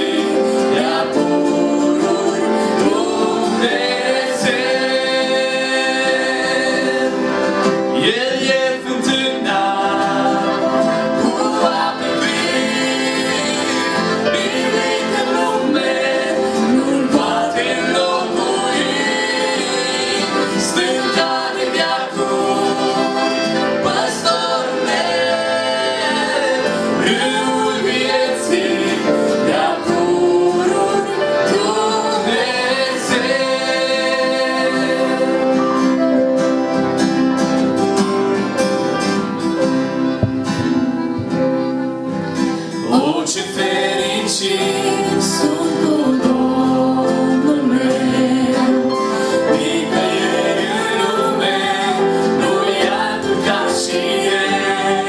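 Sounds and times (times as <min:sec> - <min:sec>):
acoustic guitar: 0:00.0 - 0:55.0
group singing in harmony: 0:00.0 - 0:55.0
keyboard: 0:00.0 - 0:55.0.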